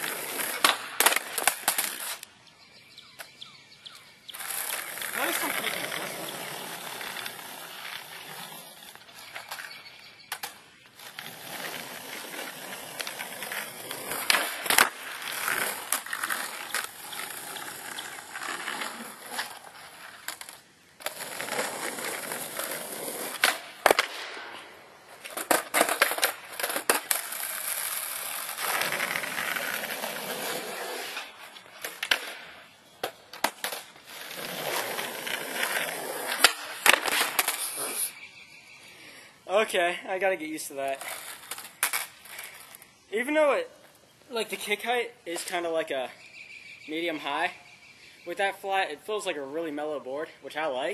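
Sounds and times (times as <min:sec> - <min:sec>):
skateboard wheels rolling on concrete: 0:00.0 - 0:50.9.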